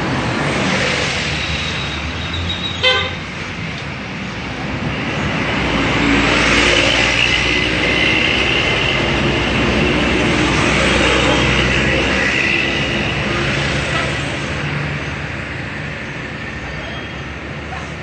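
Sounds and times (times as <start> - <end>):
heavy vehicle passing: 0.0 - 18.0.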